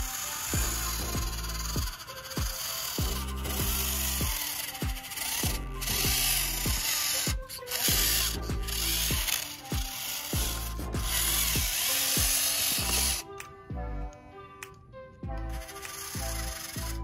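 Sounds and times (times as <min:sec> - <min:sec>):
music with thumping beat: 0:00.0 - 0:14.1, 0:15.2 - 0:17.0
small electric motor whirring: 0:00.0 - 0:17.0.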